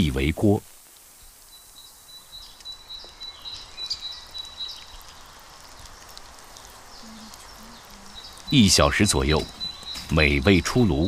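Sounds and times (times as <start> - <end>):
soft hiss: 0.0 - 11.0
faint bird chirps: 1.1 - 11.0.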